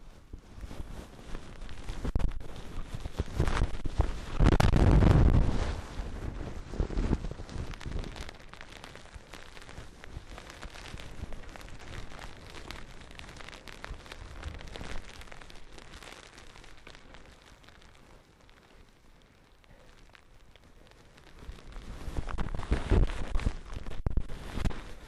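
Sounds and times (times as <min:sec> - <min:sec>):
skis hissing through powder snow: 0:00.0 - 0:25.0
wind rumble on microphone: 0:00.0 - 0:25.0.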